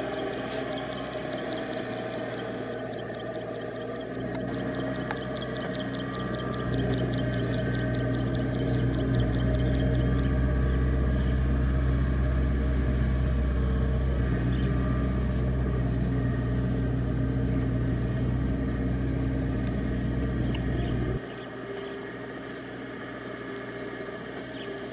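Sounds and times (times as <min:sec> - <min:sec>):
diesel engine drone: 0:00.0 - 0:24.9.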